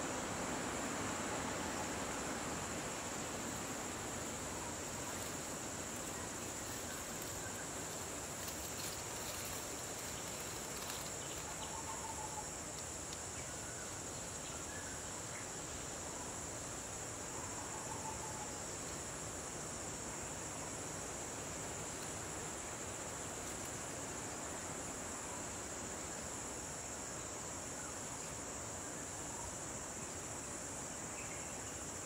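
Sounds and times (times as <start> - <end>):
insects chorus shrilling: 0.0 - 32.0.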